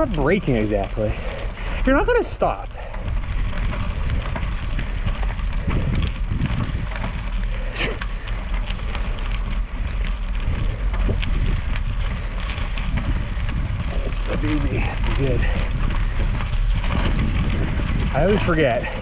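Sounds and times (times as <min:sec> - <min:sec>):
bicycle tyres crunching over gravel: 0:00.0 - 0:19.0
wind buffeting microphone: 0:00.0 - 0:19.0.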